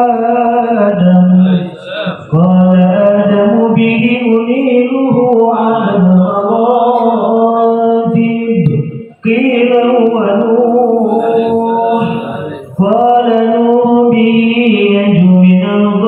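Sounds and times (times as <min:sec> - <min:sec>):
men chanting devotional praise: 0:00.0 - 0:16.0.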